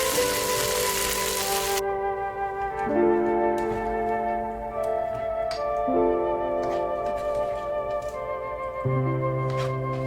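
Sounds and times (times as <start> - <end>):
soft slow background music: 0.0 - 10.0.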